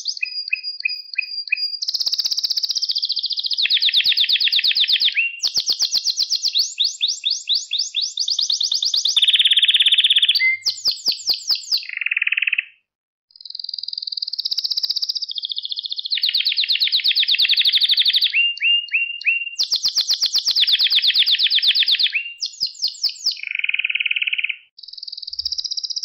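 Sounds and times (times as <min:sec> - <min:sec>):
canary singing trills: 0:00.0 - 0:12.8, 0:13.4 - 0:26.0.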